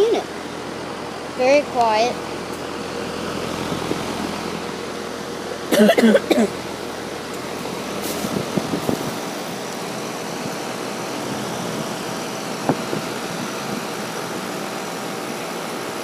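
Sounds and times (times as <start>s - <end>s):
air conditioner fan rushing: 0.0s - 16.0s.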